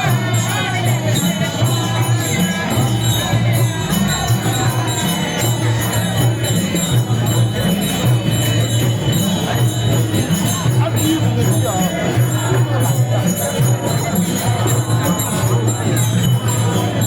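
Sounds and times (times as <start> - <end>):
drums steady beat: 0.0 - 17.0
hand cymbals clashing: 0.0 - 17.0.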